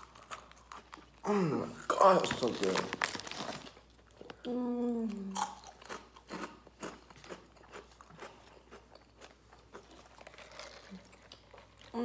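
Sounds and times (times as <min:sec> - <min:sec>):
chewing crunchy chips: 0:00.0 - 0:04.5, 0:05.1 - 0:12.0.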